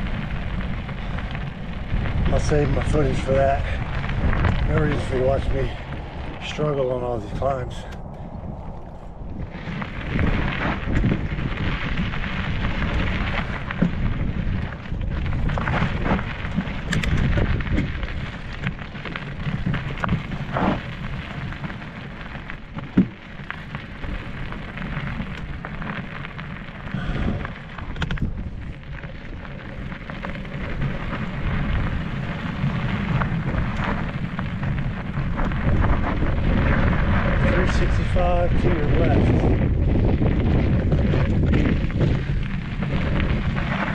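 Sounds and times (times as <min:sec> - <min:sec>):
tyres rolling over dirt: 0:00.0 - 0:07.9, 0:08.7 - 0:43.9
bike clicks and rattles: 0:00.0 - 0:43.9
wind buffeting microphone: 0:00.0 - 0:43.9.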